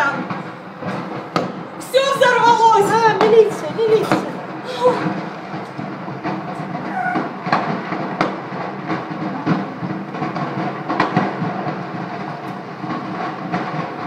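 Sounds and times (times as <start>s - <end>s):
fire pops and cracks: 0.0s - 2.3s, 3.2s - 14.0s
fire roaring: 0.0s - 14.0s.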